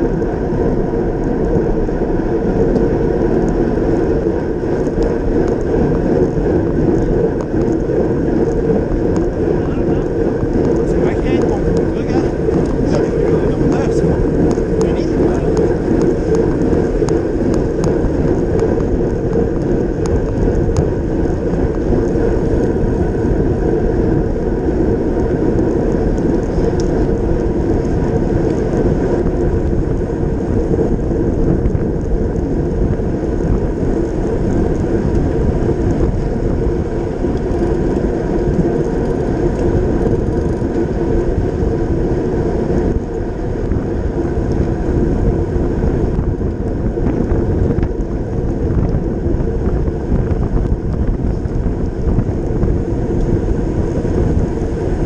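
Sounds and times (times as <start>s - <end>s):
bike tyres on asphalt: 0.0s - 55.0s
wind on microphone: 0.0s - 55.0s.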